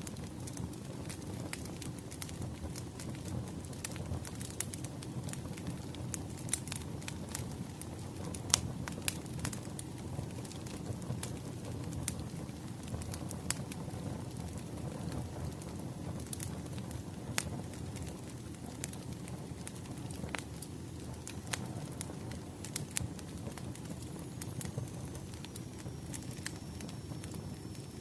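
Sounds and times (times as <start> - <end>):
firewood crackling and popping: 0.0 - 28.0
low rumble of flames: 0.0 - 28.0.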